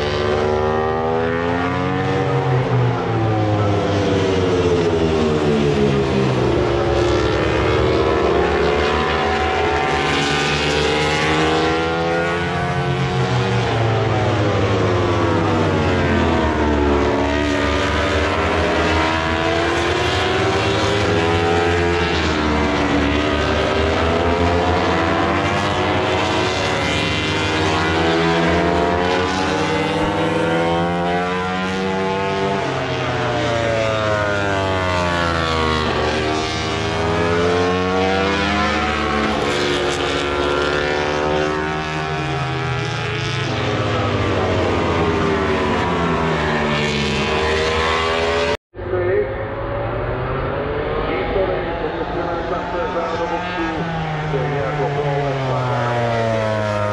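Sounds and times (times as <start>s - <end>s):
racing motorcycle engines revving: 0.0s - 56.9s.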